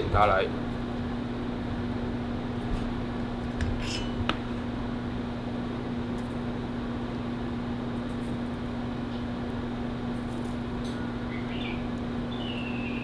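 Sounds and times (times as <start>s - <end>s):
electrical hum with fan hiss: 0.0s - 13.0s.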